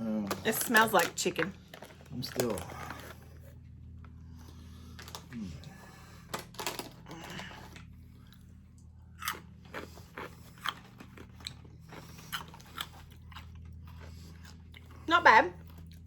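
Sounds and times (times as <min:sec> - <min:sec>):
crunchy snack being chewed: 0:00.2 - 0:03.7, 0:04.4 - 0:16.0.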